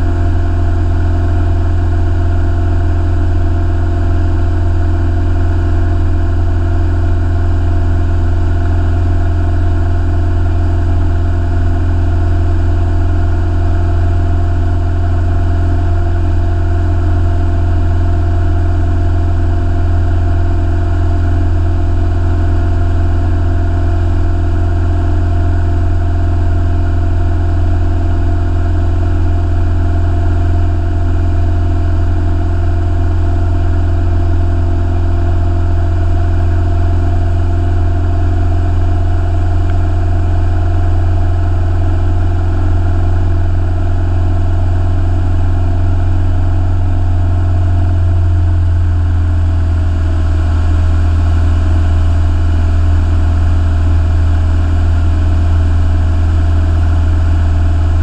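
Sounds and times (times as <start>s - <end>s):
light aircraft engine drone in cabin: 0.0s - 58.0s.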